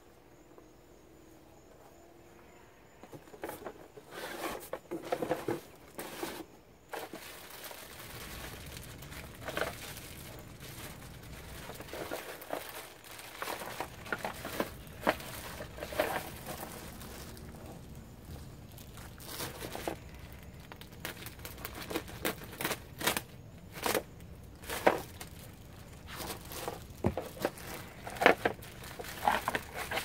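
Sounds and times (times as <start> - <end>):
plastic bag crinkling: 5.1 - 30.0.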